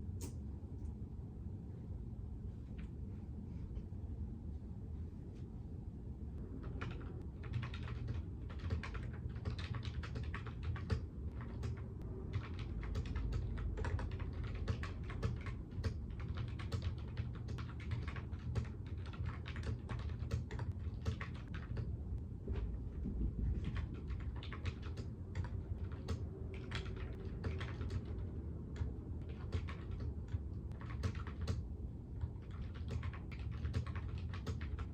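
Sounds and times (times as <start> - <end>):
low background hum: 0.0 - 34.9.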